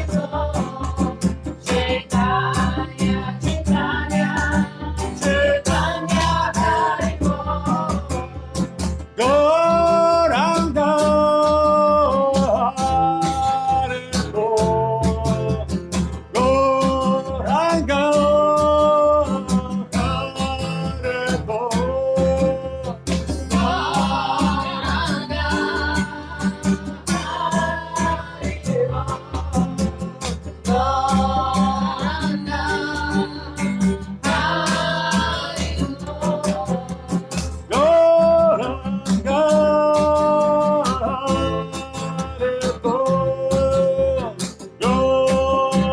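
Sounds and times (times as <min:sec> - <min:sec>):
devotional mantra chant: 0:00.0 - 0:15.7, 0:16.4 - 0:45.9
acoustic guitar strumming: 0:00.0 - 0:45.9.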